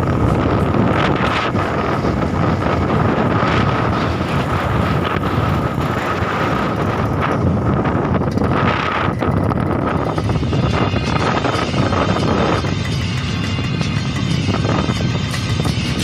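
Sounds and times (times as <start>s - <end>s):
thin steady whine: 0.0s - 16.0s
vehicle engine running: 0.0s - 16.0s
wind buffeting microphone: 0.0s - 16.0s.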